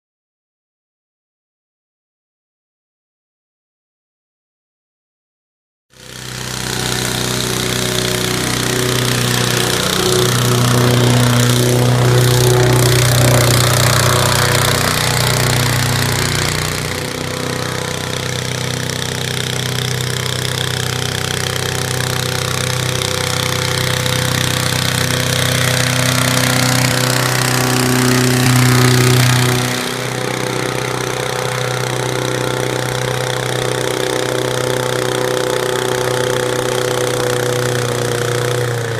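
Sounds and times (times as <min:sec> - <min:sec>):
small engine driving propeller: 0:05.9 - 0:38.9
loud propeller rush: 0:06.0 - 0:38.9.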